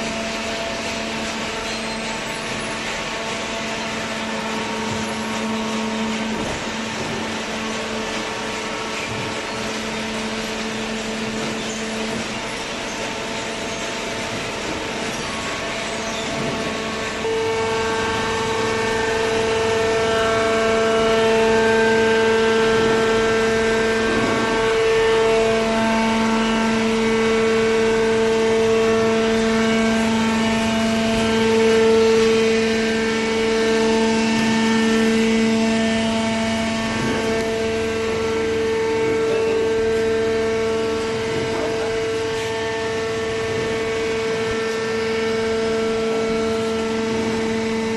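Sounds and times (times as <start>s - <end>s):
hydraulic baler whining hum: 0.0s - 47.9s.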